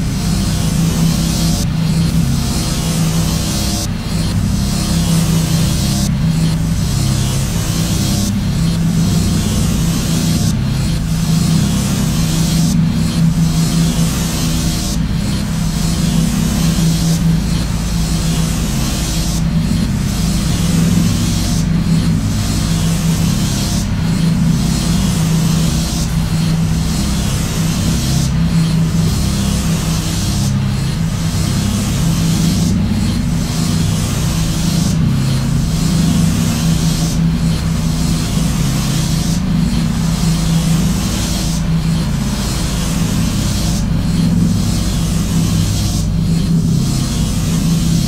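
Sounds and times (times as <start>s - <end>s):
harsh static hiss: 0.0s - 48.0s
low steady drone: 0.0s - 48.0s.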